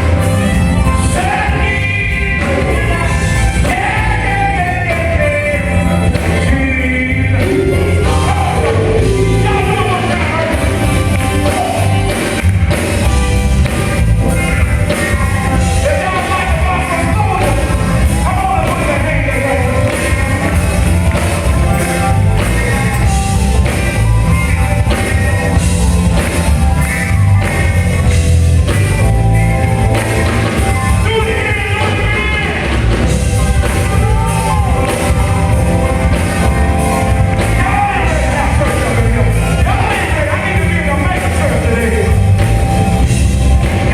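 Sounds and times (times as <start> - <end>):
loud music with singing: 0.0 - 43.9.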